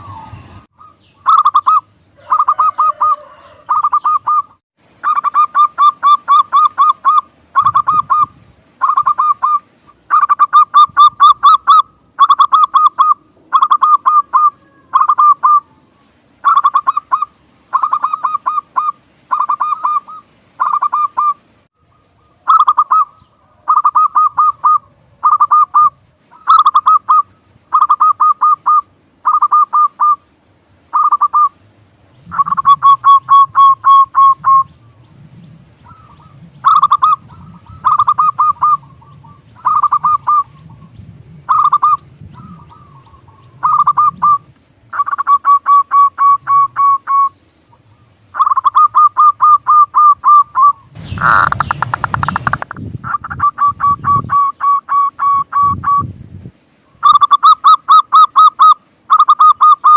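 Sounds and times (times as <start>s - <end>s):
dove cooing: 0.0s - 30.2s, 32.2s - 56.1s.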